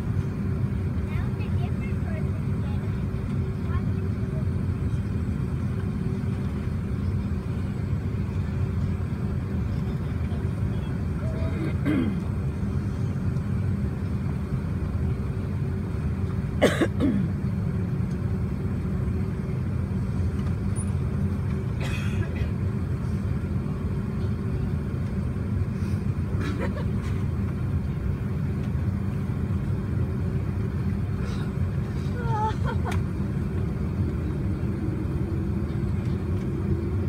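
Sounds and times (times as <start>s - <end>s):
aircraft cabin rumble: 0.0s - 37.0s.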